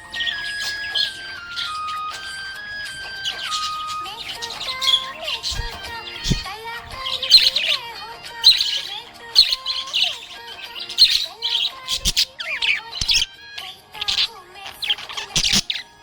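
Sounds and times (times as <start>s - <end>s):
background music: 0.0s - 16.0s
budgerigar chirping: 0.0s - 16.0s.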